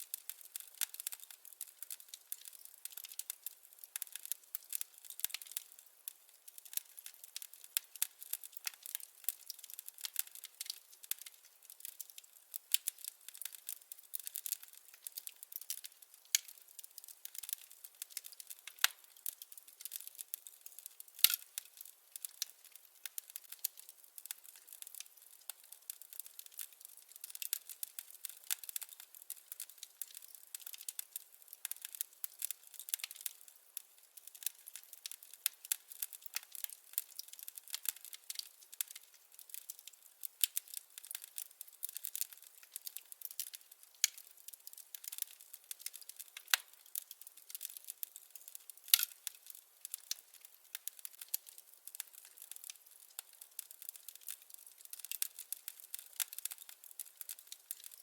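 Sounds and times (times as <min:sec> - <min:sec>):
firewood crackling in fireplace: 0:00.0 - 0:58.0.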